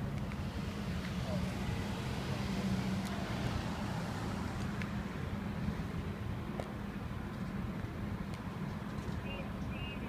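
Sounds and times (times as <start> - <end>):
engines rumbling: 0.0 - 10.0.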